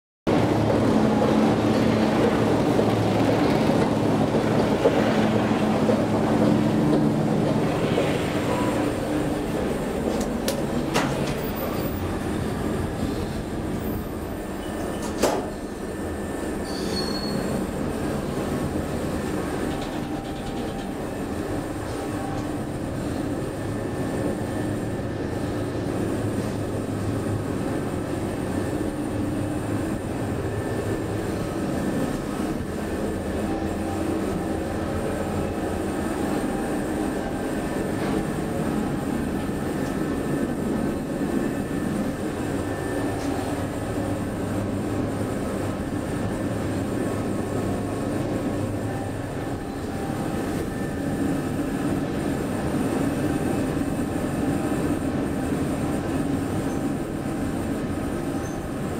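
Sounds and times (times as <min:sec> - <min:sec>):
elevator car running noise: 0:00.3 - 0:58.9.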